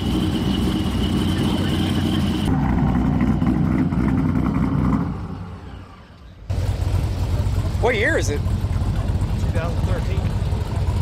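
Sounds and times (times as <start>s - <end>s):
high supercharger whine: 0.0s - 11.0s
truck engine running: 0.0s - 11.0s.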